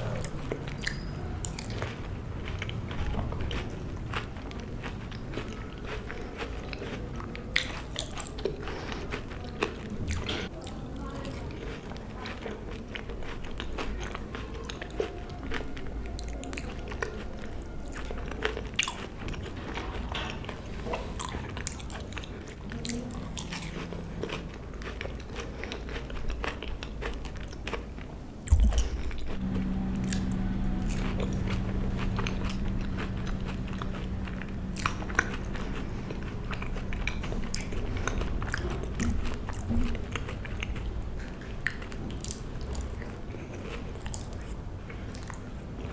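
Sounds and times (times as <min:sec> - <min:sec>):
person chewing food: 0:00.0 - 0:45.9
steady low hum: 0:00.0 - 0:45.9.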